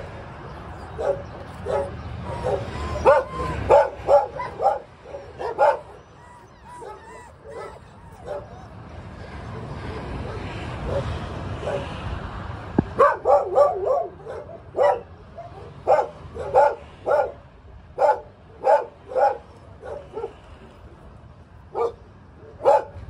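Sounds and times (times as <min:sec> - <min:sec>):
puppies barking and yipping: 0:00.4 - 0:12.0, 0:12.9 - 0:17.4, 0:18.0 - 0:20.5, 0:21.8 - 0:23.0.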